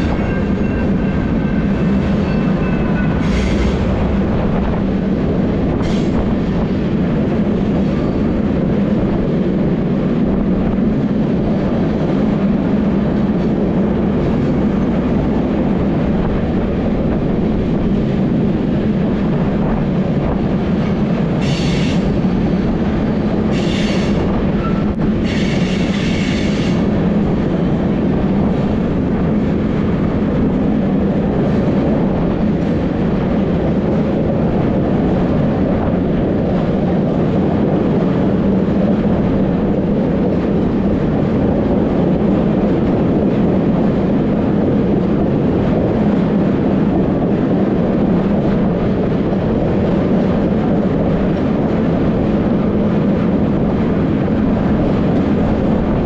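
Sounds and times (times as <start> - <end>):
train cab drone with rail noise: 0.0 - 56.0.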